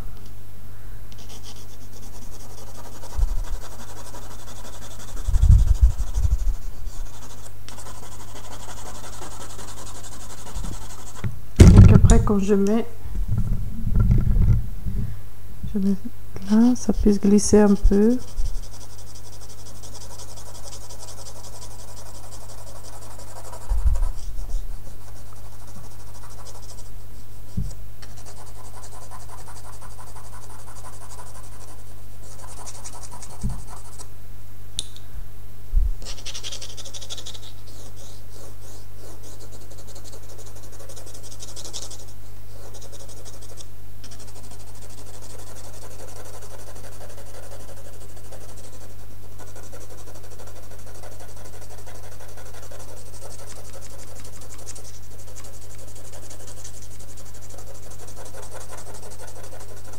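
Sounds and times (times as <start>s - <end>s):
steady low hum: 0.0s - 59.9s
pencil scratching on paper: 1.2s - 11.2s, 17.6s - 27.0s, 28.0s - 34.0s, 36.0s - 59.9s.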